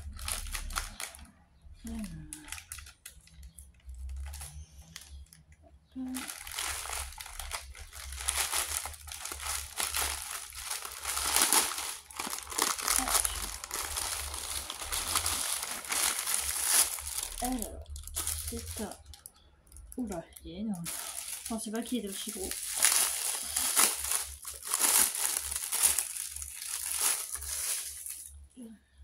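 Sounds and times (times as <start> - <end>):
packaging crinkling and rustling: 0.0 - 5.5, 6.1 - 28.4.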